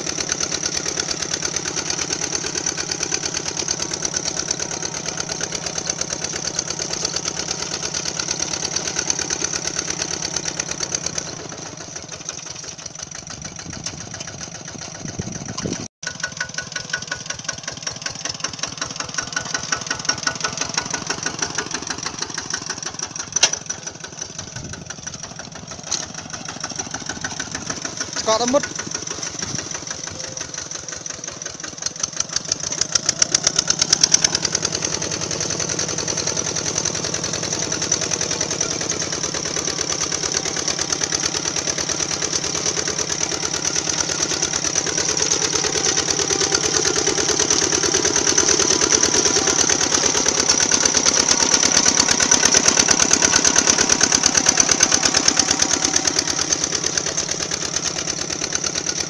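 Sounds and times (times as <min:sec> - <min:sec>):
small engine puttering: 0:00.0 - 0:59.0.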